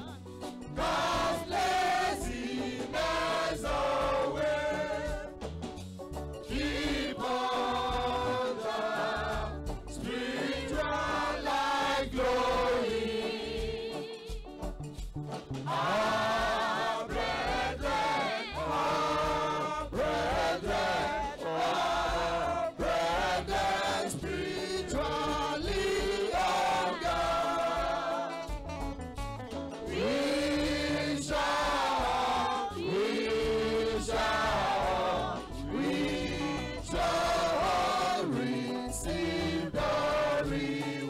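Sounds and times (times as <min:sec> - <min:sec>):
choir singing a hymn: 0:00.0 - 0:05.5, 0:06.4 - 0:14.6, 0:15.7 - 0:28.6, 0:29.8 - 0:41.0.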